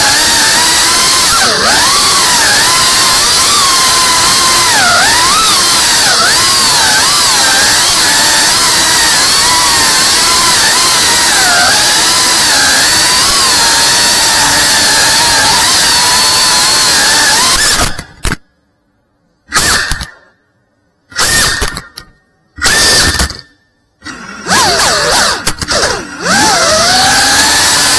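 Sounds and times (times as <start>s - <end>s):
quadcopter motors whining: 0.0s - 18.3s, 21.1s - 27.9s.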